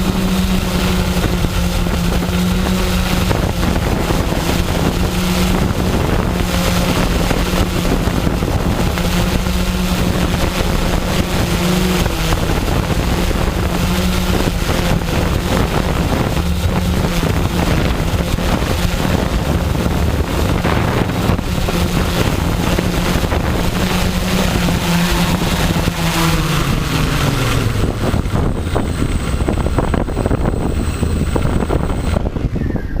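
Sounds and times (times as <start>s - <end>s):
drone motors humming: 0.0s - 33.0s
wind buffeting microphone: 0.0s - 33.0s.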